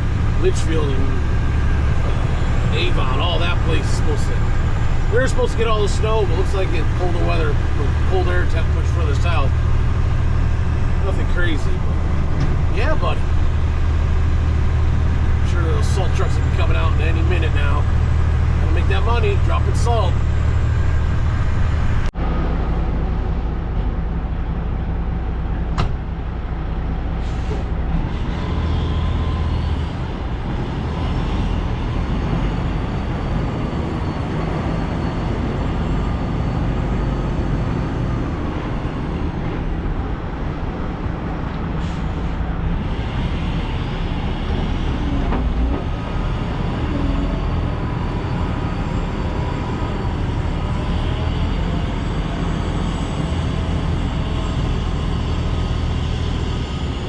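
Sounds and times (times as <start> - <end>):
road noise: 0.0 - 57.0
vehicle engine: 0.0 - 57.0.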